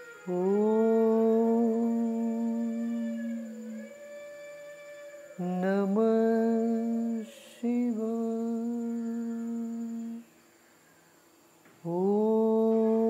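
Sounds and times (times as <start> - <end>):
person humming long notes: 0.0 - 10.3, 11.8 - 13.0.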